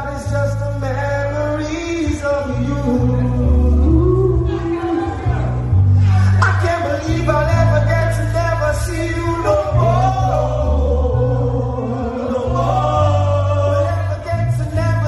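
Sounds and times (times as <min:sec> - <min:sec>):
amplified music with heavy bass: 0:00.0 - 0:15.0
men singing into microphones: 0:00.0 - 0:15.0.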